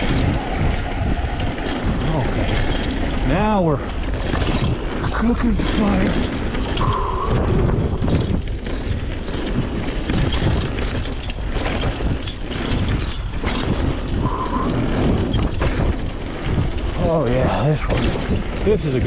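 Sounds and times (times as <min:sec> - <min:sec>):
mountain bike rattling and knocking: 0:00.0 - 0:19.0
wind buffeting microphone: 0:00.0 - 0:19.0.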